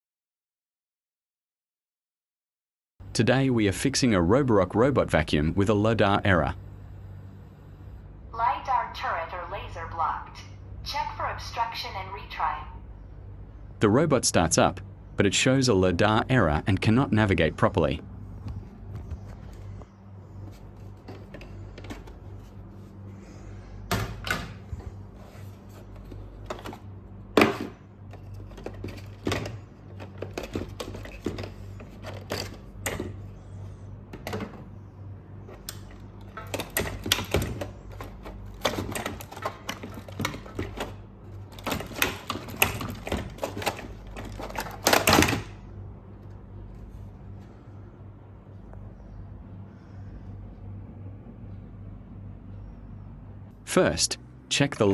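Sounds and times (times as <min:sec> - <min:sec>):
steady low hum: 0:03.0 - 0:54.9.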